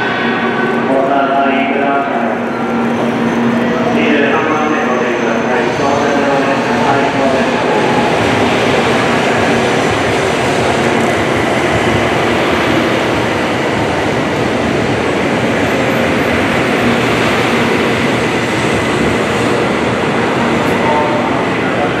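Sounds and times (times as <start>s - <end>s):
train wheels rushing on rail: 0.0s - 22.0s.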